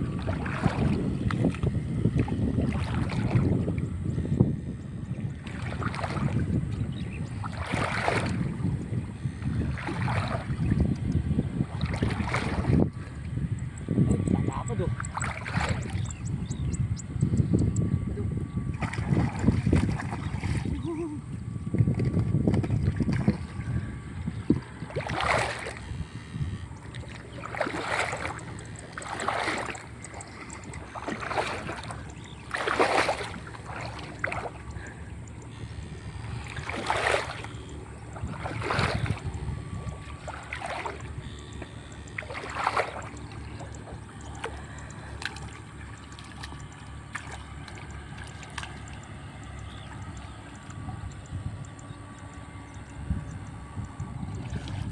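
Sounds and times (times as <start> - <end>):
water splashing and swishing: 0.0 - 16.7, 18.0 - 54.9
steady low rumble: 0.0 - 54.9.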